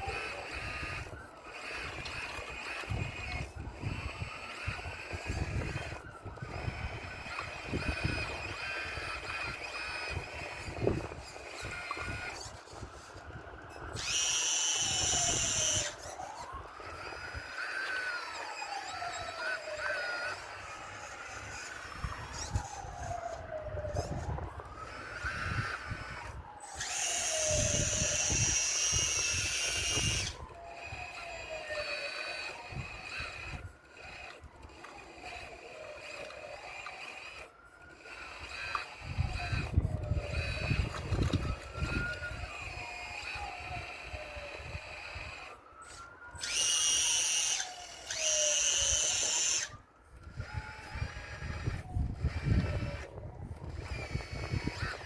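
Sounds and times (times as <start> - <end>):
model excavator motors whining: 0.0 - 55.0.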